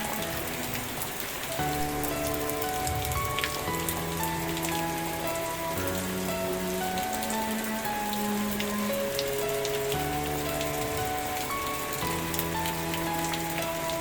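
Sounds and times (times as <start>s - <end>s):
soft sustained music chords: 0.0s - 14.0s
steady rain falling: 0.0s - 14.0s.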